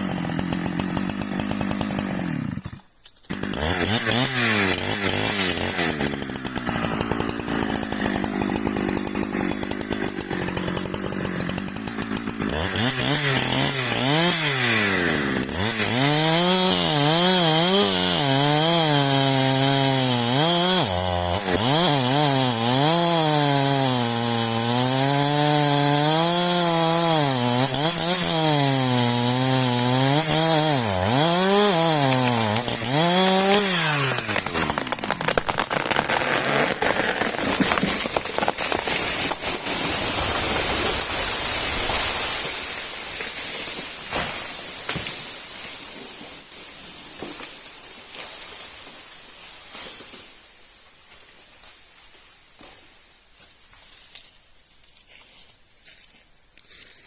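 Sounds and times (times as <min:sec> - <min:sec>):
chainsaw cutting wood: 0:00.0 - 0:50.5.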